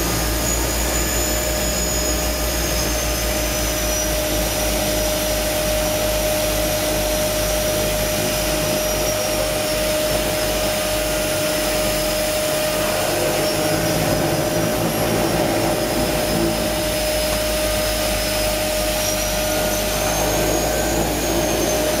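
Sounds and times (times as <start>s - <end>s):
propeller engine drone from cabin: 0.0s - 22.0s.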